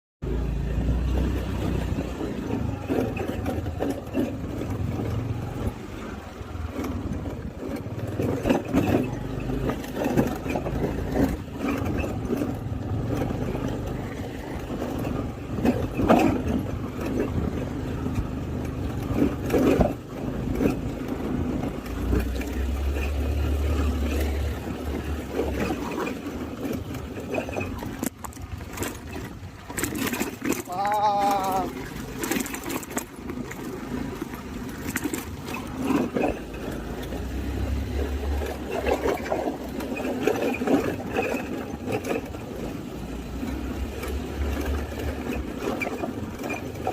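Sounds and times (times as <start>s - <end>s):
scooter engine rumble: 0.2s - 46.9s.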